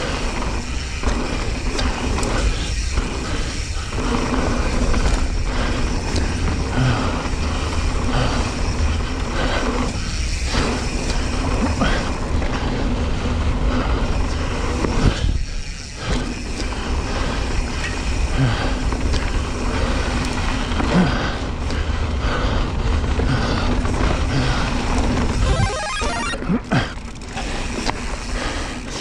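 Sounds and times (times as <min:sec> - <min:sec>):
bike frame rattling: 0:00.0 - 0:25.5, 0:26.4 - 0:29.0
bike tyres crunching over gravel: 0:00.0 - 0:25.5, 0:27.0 - 0:29.0.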